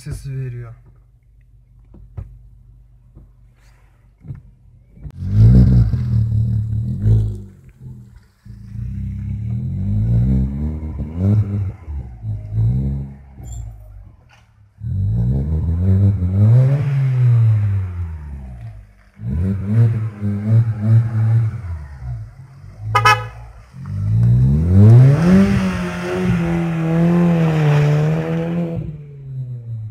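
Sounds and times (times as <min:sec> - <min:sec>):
car engine revving: 0:05.1 - 0:29.9.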